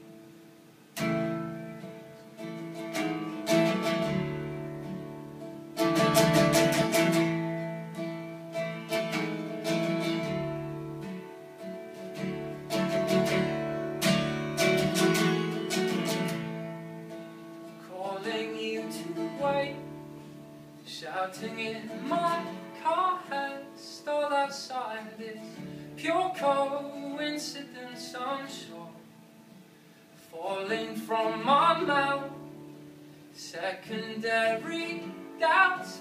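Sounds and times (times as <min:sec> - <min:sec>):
acoustic guitar chords: 0:00.0 - 0:36.0.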